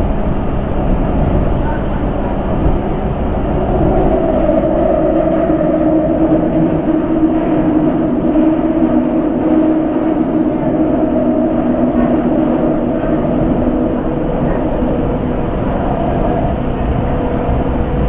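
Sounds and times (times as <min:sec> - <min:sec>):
electric train running noise: 0:00.0 - 0:18.0
steady hum: 0:00.0 - 0:18.0.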